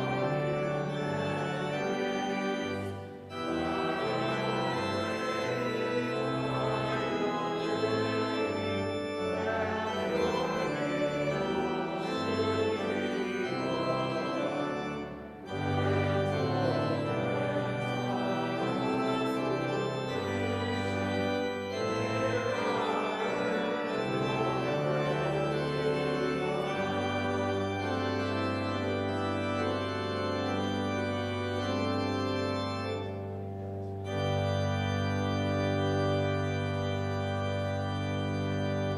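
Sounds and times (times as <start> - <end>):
organ playing chords: 0.0 - 38.9.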